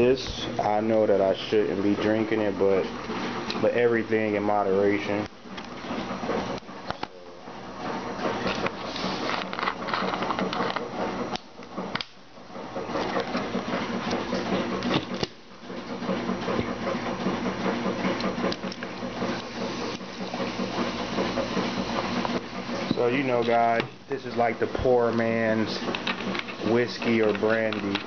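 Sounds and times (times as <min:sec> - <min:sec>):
motor hum with rattling clicks: 0:00.0 - 0:28.0.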